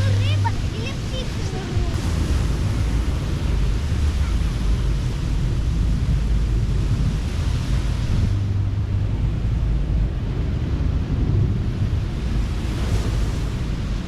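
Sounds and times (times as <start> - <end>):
surf washing on a beach: 0.0 - 14.0
wind buffeting the microphone: 0.0 - 14.0.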